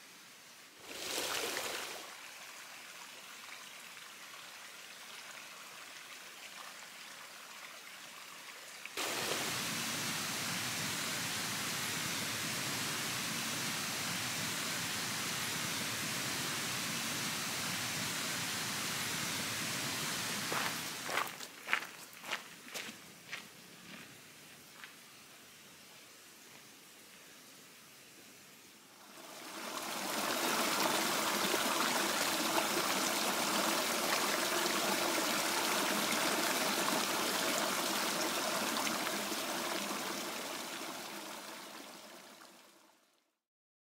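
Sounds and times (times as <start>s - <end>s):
rushing mountain stream: 0.8s - 22.4s, 29.0s - 42.6s.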